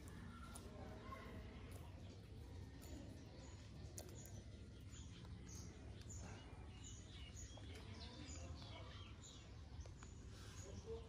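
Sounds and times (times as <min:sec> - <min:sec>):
birds chirping and whistling: 0:01.5 - 0:11.0.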